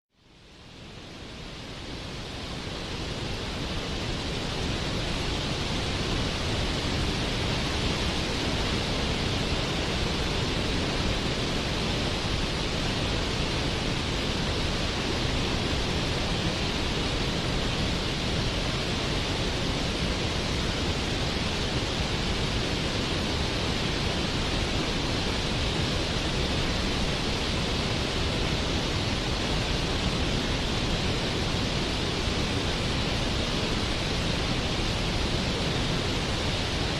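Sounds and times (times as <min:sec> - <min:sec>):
waterfall rushing: 0:00.4 - 0:36.9.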